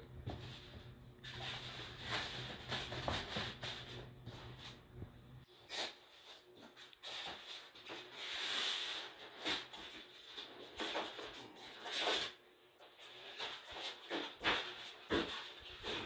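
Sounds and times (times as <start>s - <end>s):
packaging rustling and scraping: 0.3s - 4.8s, 5.7s - 16.0s.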